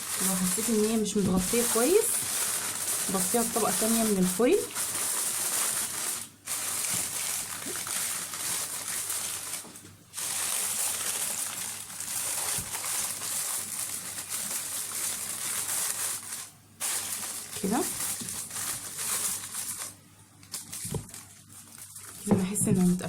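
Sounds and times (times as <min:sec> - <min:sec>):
aluminium foil crinkling: 0:00.0 - 0:23.0.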